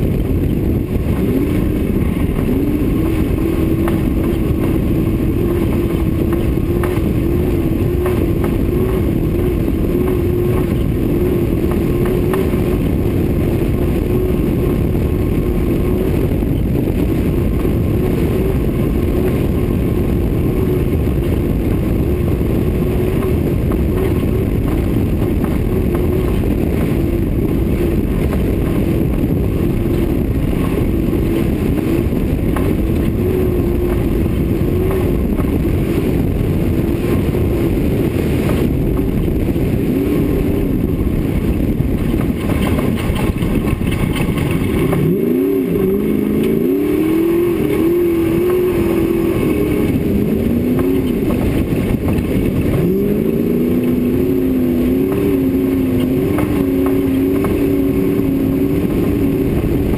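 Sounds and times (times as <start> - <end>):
race car engine running hard: 0.0 - 59.9
tyres on rough dirt track: 0.0 - 59.9
wind rumble: 0.0 - 59.9.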